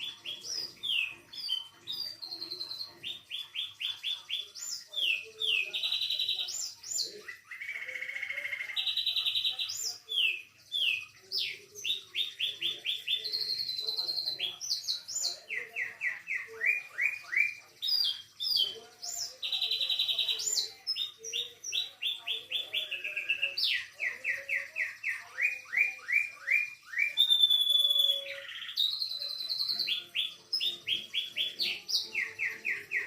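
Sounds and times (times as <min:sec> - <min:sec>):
canary singing: 0:00.0 - 0:33.0.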